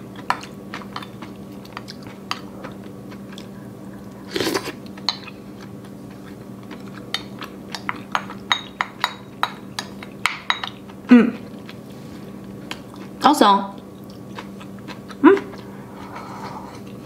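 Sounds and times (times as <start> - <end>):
low steady hum: 0.0 - 17.0
wet chewing: 0.2 - 8.4, 9.8 - 15.8.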